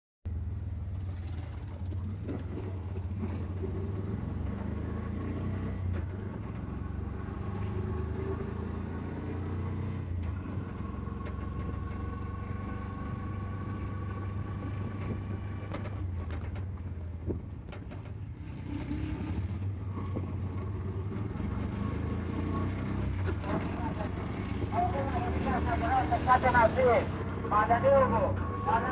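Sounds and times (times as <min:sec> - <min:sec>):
passing street traffic: 0:00.3 - 0:28.9
small engine droning: 0:00.3 - 0:28.9.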